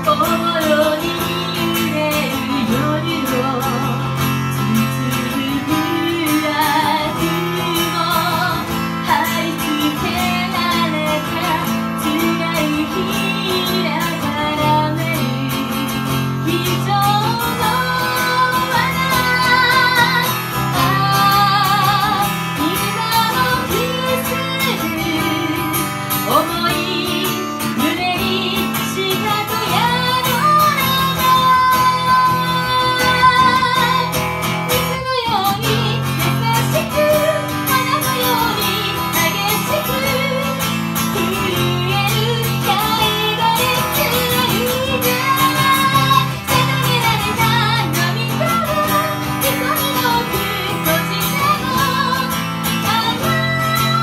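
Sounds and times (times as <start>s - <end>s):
acoustic guitar: 0.0s - 54.0s
woman singing into a microphone: 0.0s - 54.0s.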